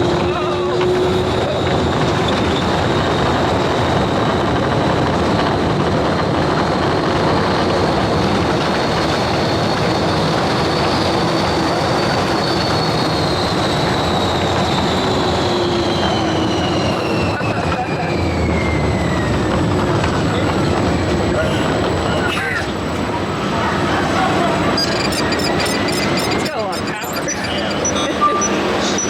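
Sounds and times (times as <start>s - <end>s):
ride vehicle wind and wheel noise: 0.0s - 29.0s.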